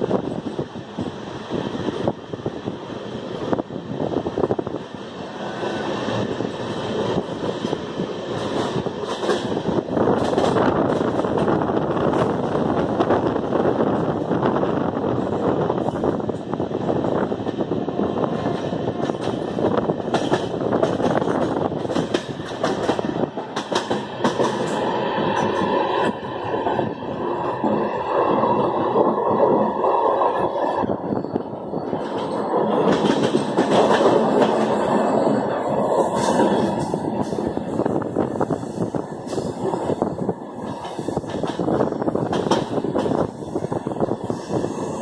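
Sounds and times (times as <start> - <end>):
rushing air: 0.0 - 45.0
train wheels rumbling on rails: 0.0 - 45.0.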